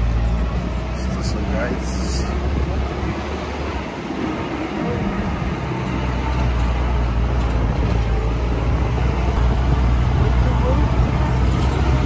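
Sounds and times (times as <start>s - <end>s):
tyre and road noise: 0.0s - 12.0s
vehicle engine droning: 0.0s - 12.0s.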